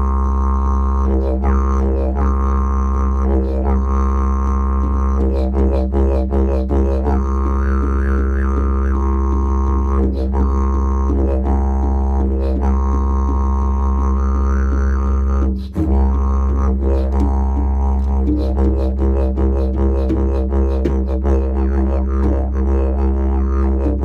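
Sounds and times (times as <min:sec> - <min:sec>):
didgeridoo drone: 0:00.0 - 0:24.0
hand drum: 0:00.0 - 0:24.0.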